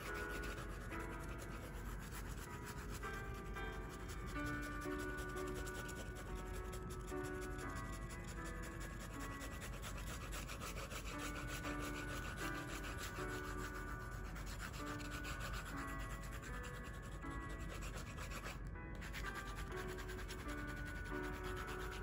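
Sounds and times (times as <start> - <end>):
pencil shading on paper: 0.0 - 22.0.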